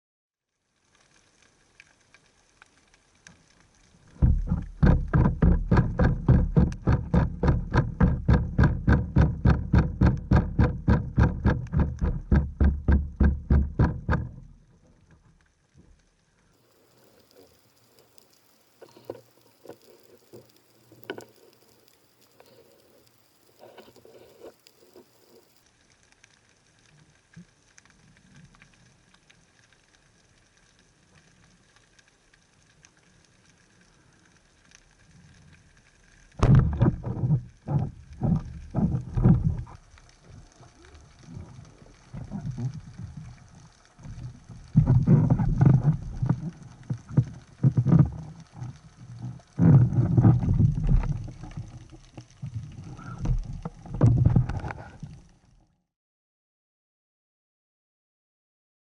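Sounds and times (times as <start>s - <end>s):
low underwater noises: 0.4s - 55.9s.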